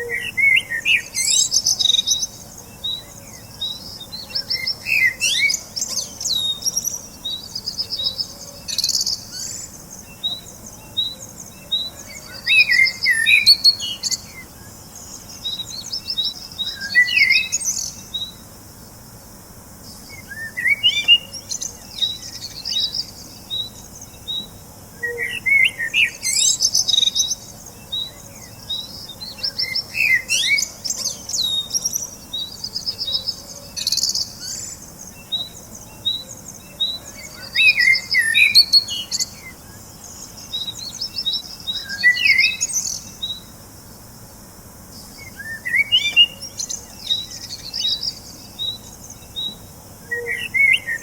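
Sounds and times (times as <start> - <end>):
birds chirping and singing: 0.0 - 18.4, 19.8 - 43.5, 44.9 - 51.0.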